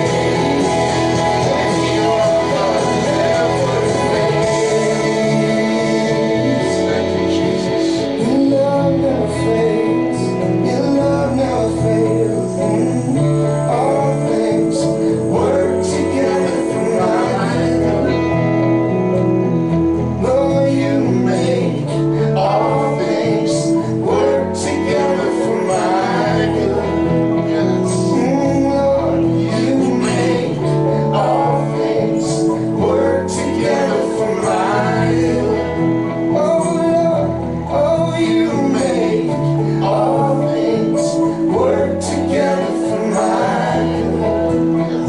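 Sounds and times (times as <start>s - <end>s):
bass line: 0.0s - 45.0s
guitar: 0.0s - 45.0s
person singing: 0.0s - 45.0s.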